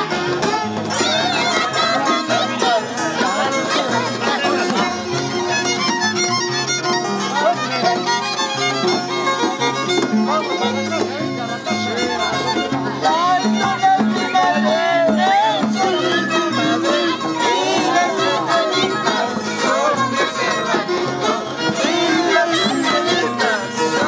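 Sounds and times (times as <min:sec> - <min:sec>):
violin melody: 0:00.0 - 0:24.0.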